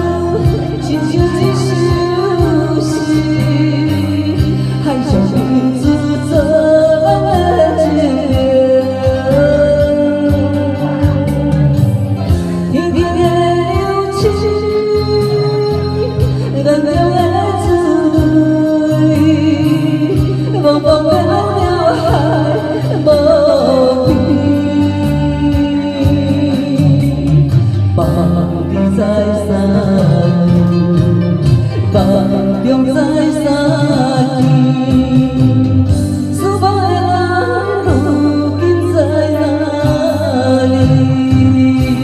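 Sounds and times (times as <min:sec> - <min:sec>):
ballad music with beat: 0:00.0 - 0:42.0.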